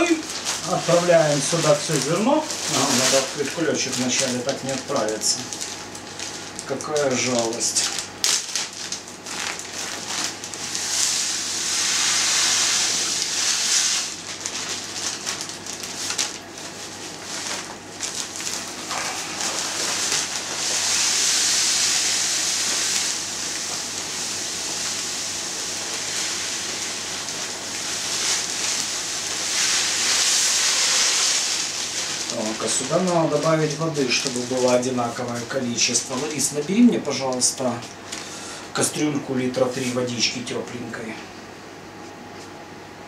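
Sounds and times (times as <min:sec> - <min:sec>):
grits pouring into water: 0:00.0 - 0:38.4.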